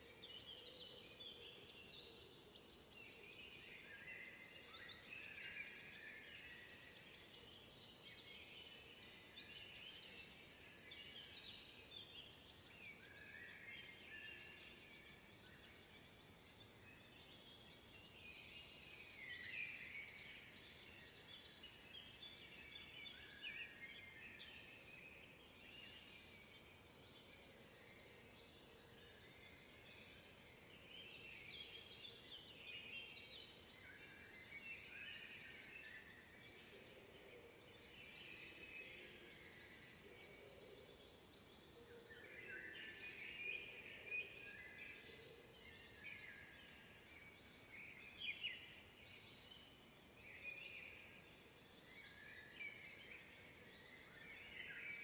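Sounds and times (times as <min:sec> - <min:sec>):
songbirds chirping and warbling: 0:00.0 - 0:55.0.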